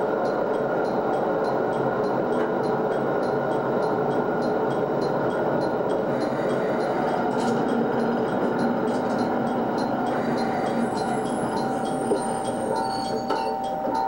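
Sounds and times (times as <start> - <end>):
diesel railcar engine running: 0.0 - 14.0.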